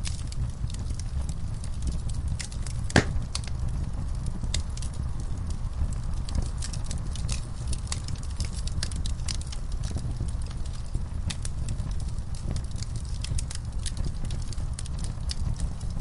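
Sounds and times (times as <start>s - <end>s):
fire pops and snaps: 0.0s - 16.0s
low steady rumble: 0.0s - 16.0s
wood fire crackling: 0.0s - 16.0s.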